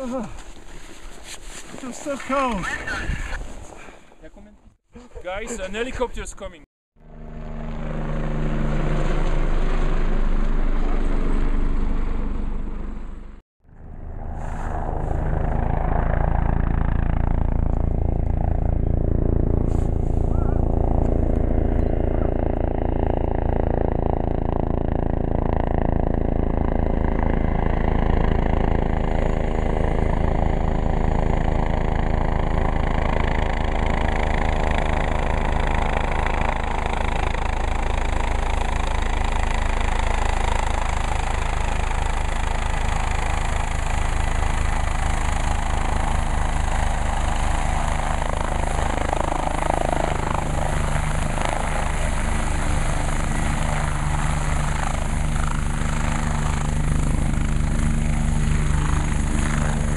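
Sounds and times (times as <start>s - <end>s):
helicopter rotor beat and engine: 5.2s - 59.9s.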